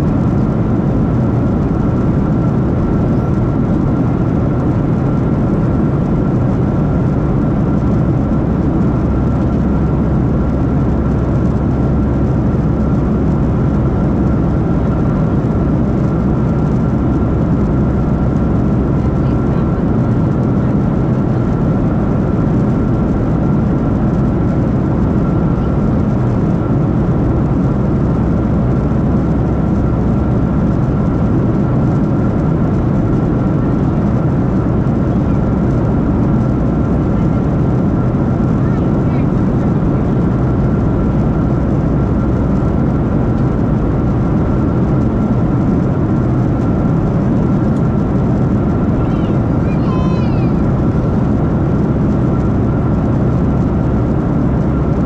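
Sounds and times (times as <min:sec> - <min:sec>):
jet cabin engine roar: 0:00.0 - 0:55.0.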